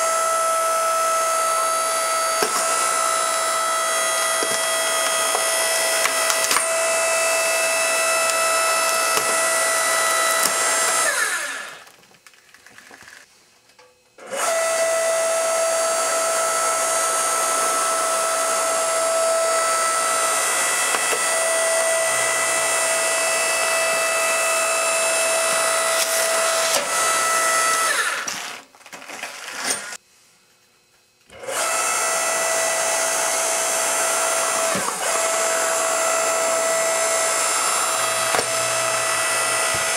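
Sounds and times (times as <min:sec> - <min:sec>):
log splitter motor whining: 0:00.0 - 0:12.0, 0:14.2 - 0:30.0, 0:31.3 - 0:39.9.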